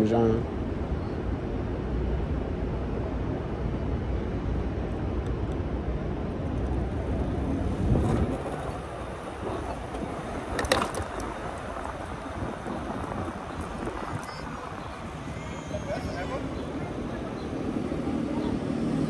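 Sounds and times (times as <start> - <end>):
tire road noise: 0.0 - 19.0
wind rushing over microphone: 0.0 - 19.0.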